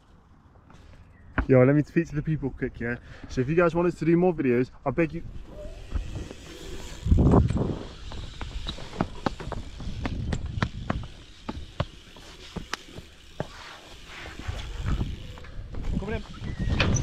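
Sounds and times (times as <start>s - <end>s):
bike rolling on concrete: 0.0s - 17.0s.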